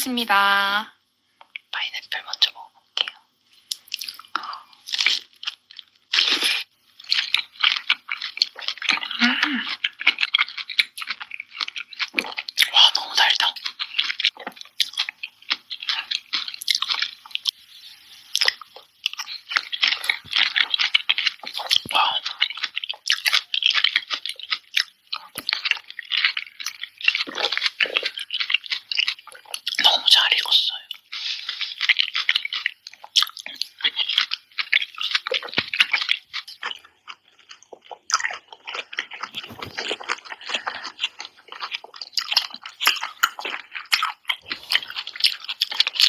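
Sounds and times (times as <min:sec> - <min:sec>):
biting and chewing pineapple: 0:02.3 - 0:46.0.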